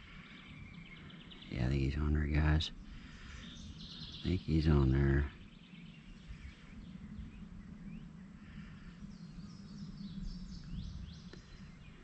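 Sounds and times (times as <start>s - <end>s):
birds chirping: 0.0s - 12.0s
low outdoor background noise: 0.0s - 12.0s.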